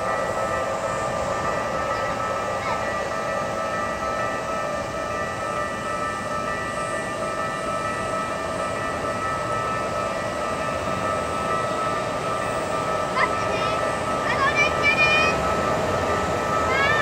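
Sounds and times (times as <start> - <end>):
level-crossing bell ringing: 0.0 - 17.0
train wheels rumbling on rails: 0.0 - 17.0.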